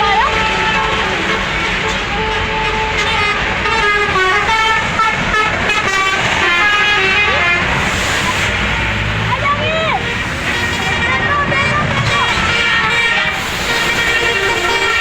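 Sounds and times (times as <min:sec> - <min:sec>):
bus engine running: 0:00.0 - 0:15.0
musical bus horn playing tune: 0:00.0 - 0:15.0.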